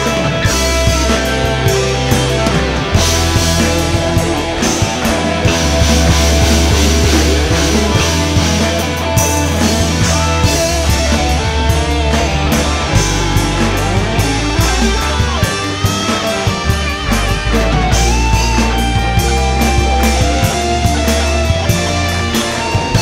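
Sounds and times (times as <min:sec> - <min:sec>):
bass guitar: 0:00.0 - 0:23.0
drum kit: 0:00.0 - 0:23.0
lead electric guitar: 0:00.0 - 0:23.0.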